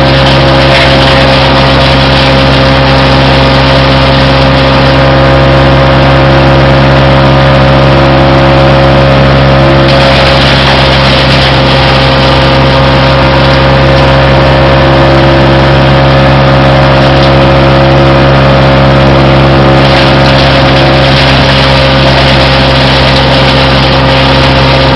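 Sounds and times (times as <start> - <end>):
wood chipper engine droning: 0.0 - 24.9.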